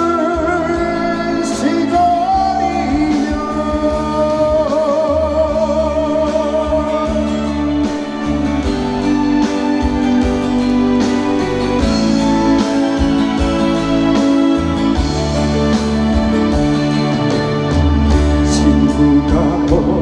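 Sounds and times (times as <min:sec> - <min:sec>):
person singing with vibrato: 0:00.0 - 0:14.6, 0:16.4 - 0:20.0
band backing track: 0:00.0 - 0:20.0.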